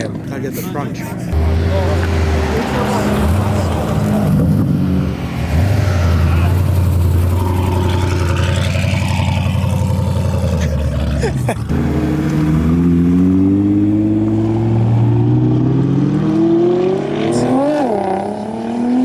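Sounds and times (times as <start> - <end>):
car engine accelerating hard: 1.3 - 19.0.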